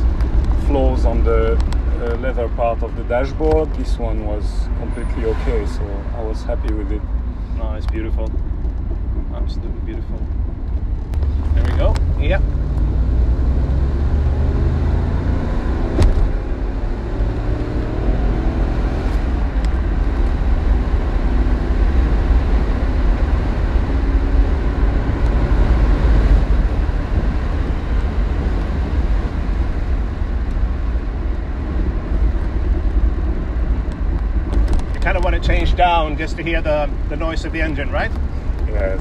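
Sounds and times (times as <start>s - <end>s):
car engine running: 0.0s - 39.0s
road and tyre noise: 0.0s - 39.0s.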